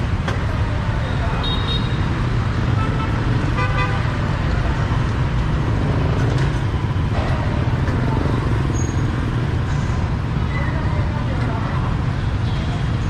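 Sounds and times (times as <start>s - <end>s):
motorbike engines rumbling: 0.0s - 13.0s
street traffic: 0.0s - 13.0s.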